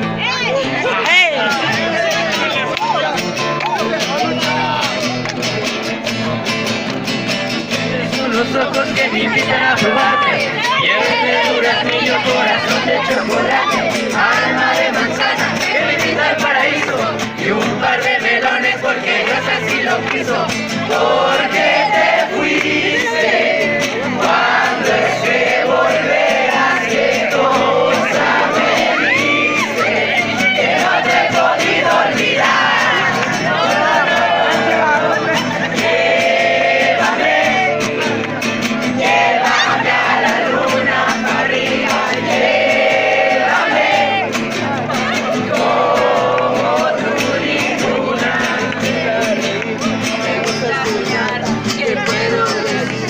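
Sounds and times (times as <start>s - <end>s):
group of people singing in chorus: 7.5s - 53.0s.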